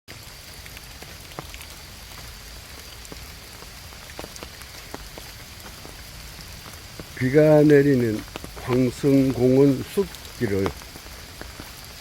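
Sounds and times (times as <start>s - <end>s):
steady rain in forest: 0.1s - 12.0s.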